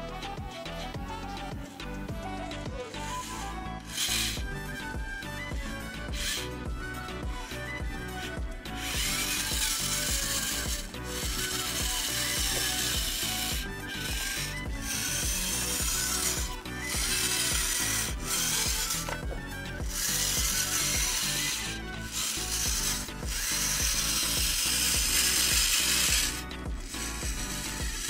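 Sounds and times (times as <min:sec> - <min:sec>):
toy tractor motor whirring and grinding: 0:00.0 - 0:28.0.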